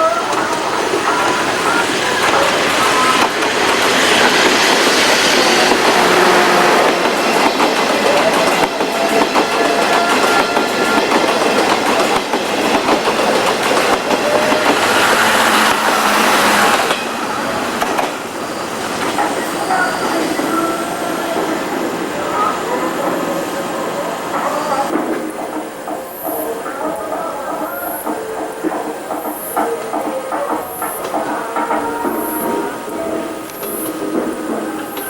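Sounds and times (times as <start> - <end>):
electric train running: 0.0 - 35.0.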